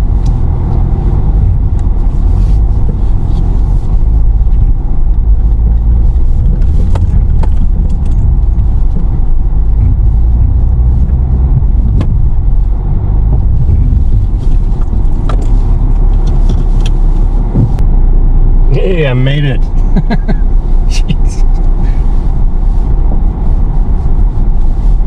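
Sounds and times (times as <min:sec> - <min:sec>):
vehicle engine running under load: 0:00.0 - 0:25.0.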